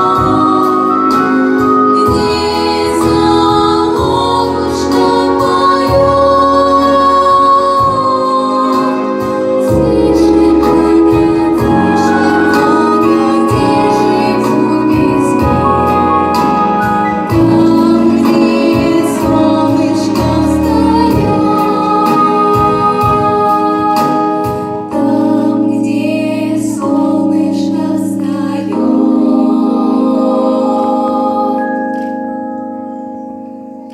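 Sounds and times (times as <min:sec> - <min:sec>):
group singing in harmony: 0:00.0 - 0:32.5
instrumental accompaniment with beat: 0:00.0 - 0:33.9.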